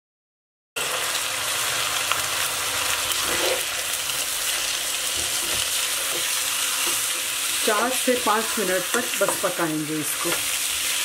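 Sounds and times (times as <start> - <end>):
meat sizzling in hot oil: 0.8 - 11.0.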